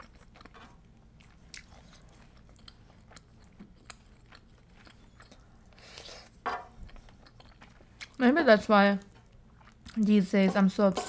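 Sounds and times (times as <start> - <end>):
soft chewing: 0.0 - 8.2, 9.0 - 10.1.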